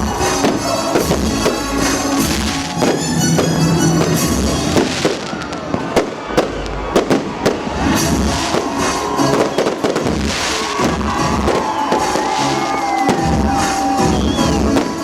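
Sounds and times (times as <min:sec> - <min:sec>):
fireworks bangs: 0:00.0 - 0:15.0
music playing: 0:00.0 - 0:15.0.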